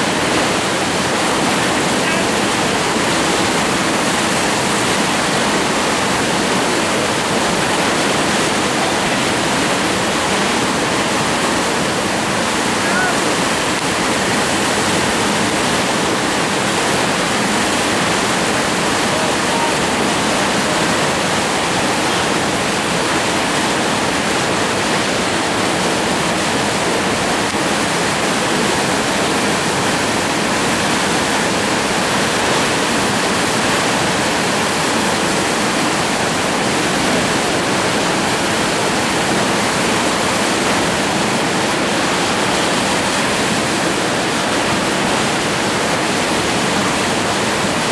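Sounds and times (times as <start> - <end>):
whitewater rapids rushing: 0.0 - 47.9.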